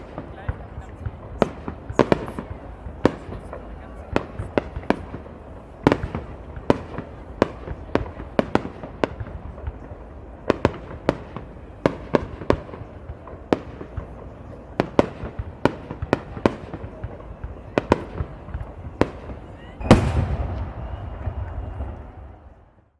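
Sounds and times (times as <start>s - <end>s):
fireworks bursting: 0.0s - 22.9s.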